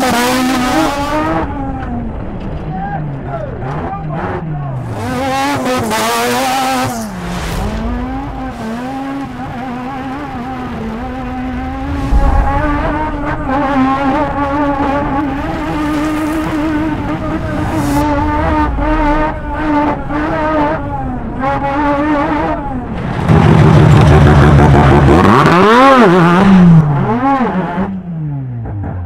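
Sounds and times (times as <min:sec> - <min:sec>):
race truck engine revving: 0:03.2 - 0:28.0.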